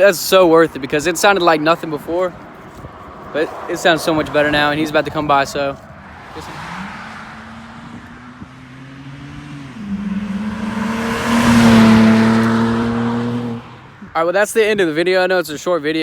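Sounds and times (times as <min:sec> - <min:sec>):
car exhaust passing by: 0:00.0 - 0:14.1.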